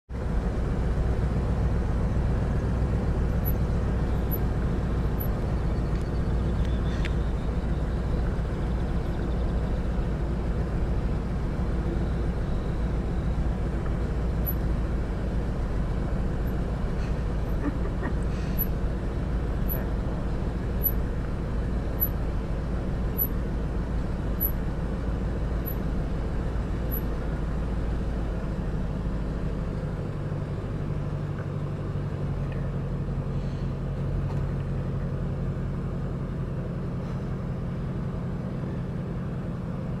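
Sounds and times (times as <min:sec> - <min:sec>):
vehicle engine idling: 0:00.1 - 0:40.0.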